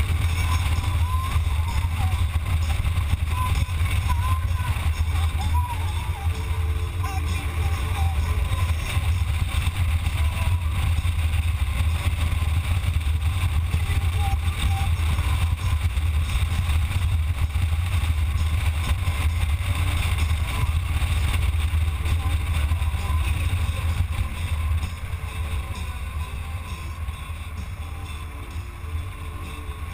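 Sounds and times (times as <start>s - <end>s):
motorcycle engine running: 0.0s - 29.9s
road and wind noise: 0.0s - 29.9s.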